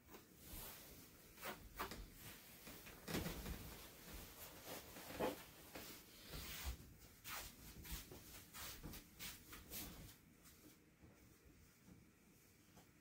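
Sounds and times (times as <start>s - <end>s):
rustle of clothing: 0.0s - 13.0s
soft footsteps on mats: 0.4s - 13.0s.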